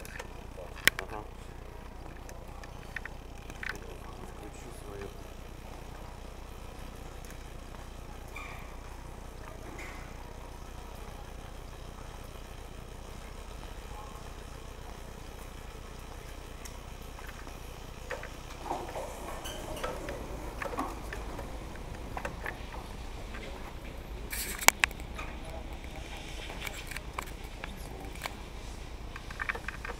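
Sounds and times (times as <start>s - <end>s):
scooter wheels clicking and knocking: 0.0s - 10.6s, 13.1s - 29.9s
electric scooter humming: 0.0s - 29.9s.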